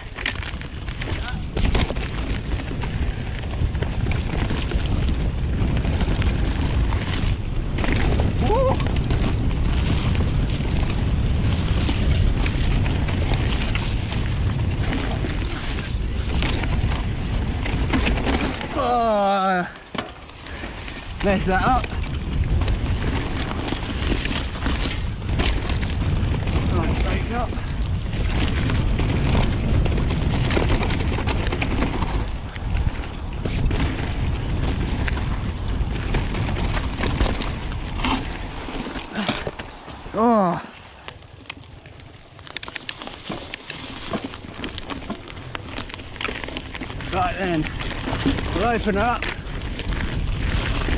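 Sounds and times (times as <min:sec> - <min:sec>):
bike rattles and clicks: 0:00.0 - 0:50.9
tyre noise on dirt: 0:00.0 - 0:50.9
wind buffeting microphone: 0:00.0 - 0:50.9.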